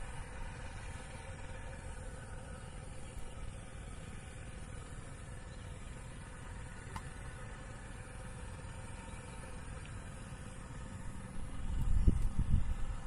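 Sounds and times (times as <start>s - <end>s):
distant jet engines idling: 0.0s - 13.0s.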